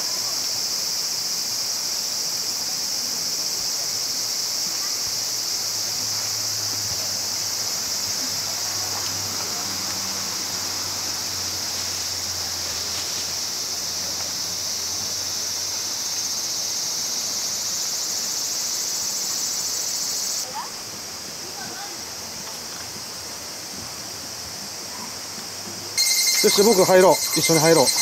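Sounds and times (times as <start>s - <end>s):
insects chorus: 0.0s - 28.0s.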